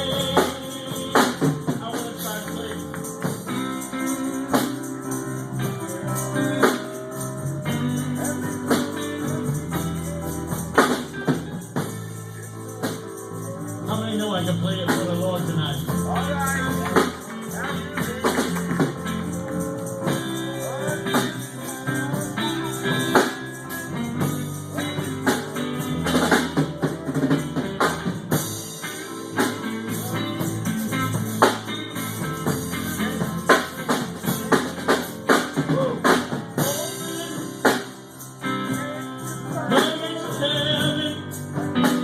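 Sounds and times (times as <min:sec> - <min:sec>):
band playing gospel music: 0:00.0 - 0:42.0
drums and percussion hits: 0:00.0 - 0:42.0.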